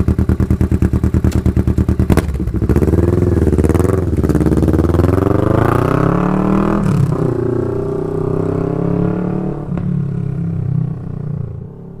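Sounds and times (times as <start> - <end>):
motorcycle engine moving away: 0.0 - 12.0.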